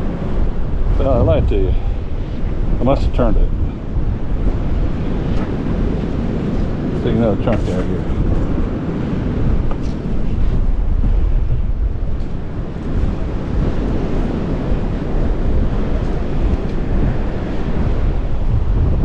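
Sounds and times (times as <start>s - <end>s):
surf: 0.0s - 19.0s
wind buffeting microphone: 0.0s - 19.0s.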